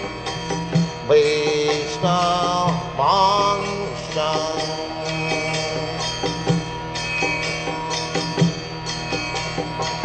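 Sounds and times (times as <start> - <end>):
regular percussion beat: 0.0 - 10.0.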